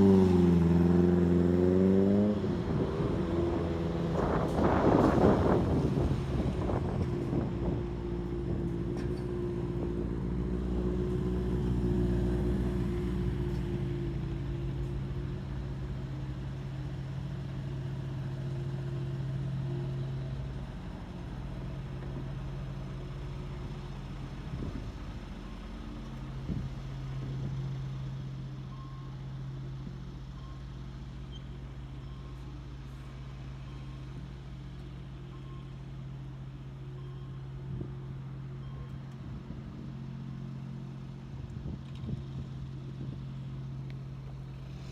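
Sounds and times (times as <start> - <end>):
motorcycle engine humming: 0.0 - 44.9.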